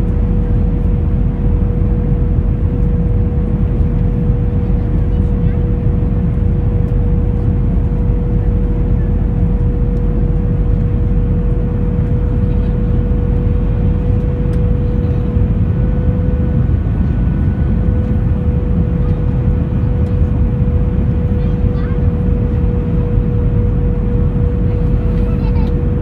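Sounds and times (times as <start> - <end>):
airliner cabin engine rumble: 0.0 - 26.0
constant whine: 0.0 - 26.0.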